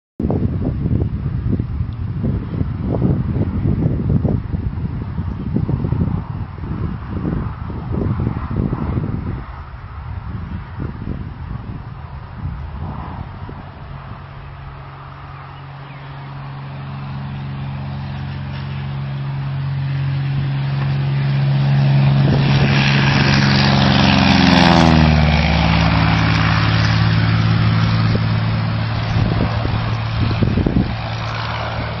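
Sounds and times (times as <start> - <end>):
propeller plane flying low past: 0.2 - 32.0.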